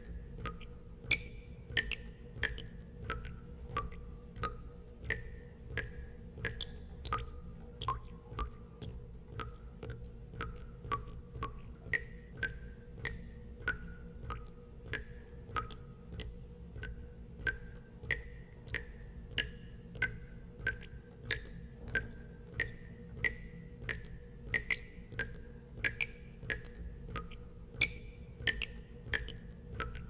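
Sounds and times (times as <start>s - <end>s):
low steady hum: 0.0s - 30.0s
water drops plinking into water: 0.0s - 30.0s.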